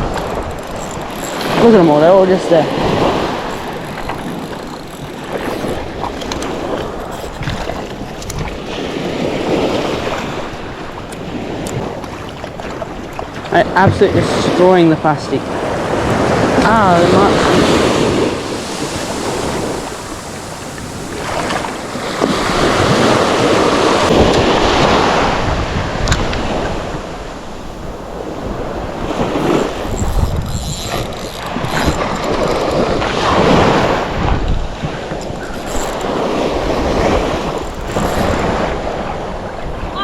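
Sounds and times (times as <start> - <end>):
splashing sea water: 0.0 - 40.0
wind buffeting microphone: 0.0 - 40.0.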